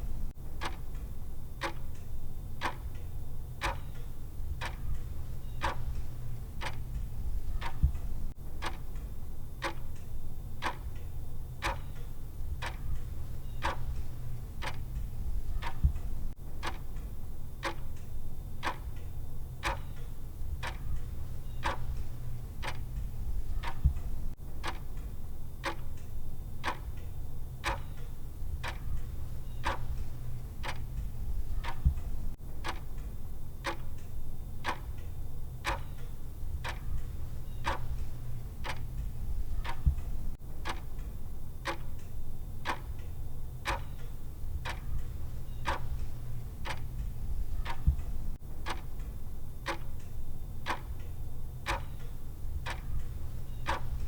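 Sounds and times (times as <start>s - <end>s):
low steady hum: 0.0s - 54.0s
timer clock ticking: 0.0s - 54.0s.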